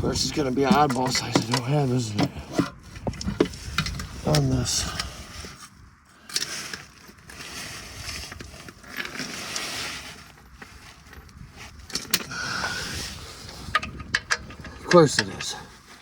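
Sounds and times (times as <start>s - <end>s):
rustling and shuffling: 0.0s - 16.0s.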